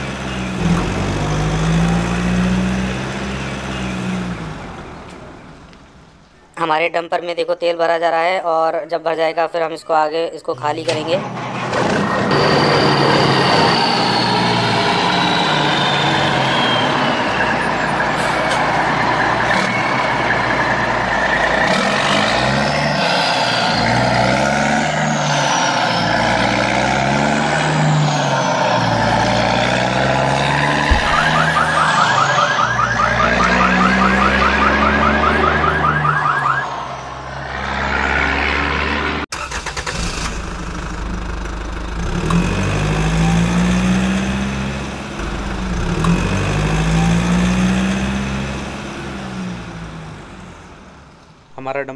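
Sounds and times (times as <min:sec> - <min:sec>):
truck engine revving: 0:00.0 - 0:06.2, 0:10.8 - 0:51.5.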